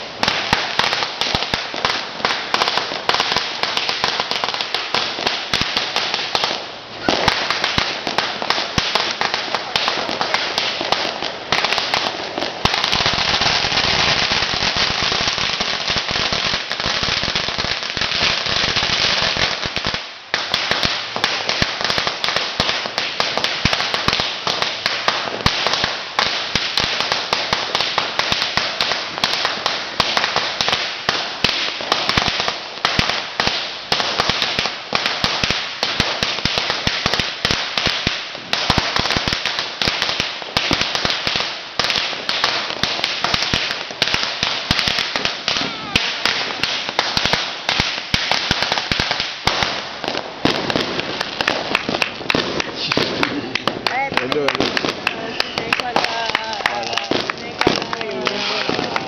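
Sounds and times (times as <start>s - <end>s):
firecrackers banging: 0.0s - 59.0s.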